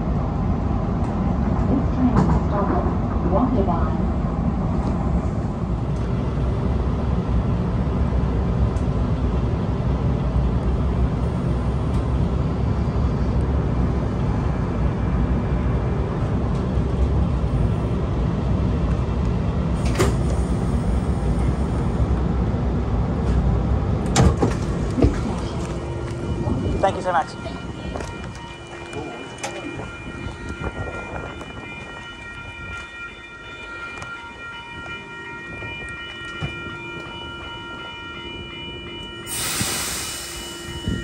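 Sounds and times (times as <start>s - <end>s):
train running low rumble: 0.0s - 41.0s.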